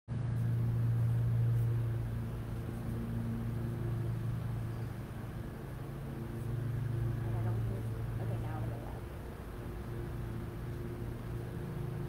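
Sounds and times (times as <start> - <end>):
low mechanical hum: 0.1 - 12.0.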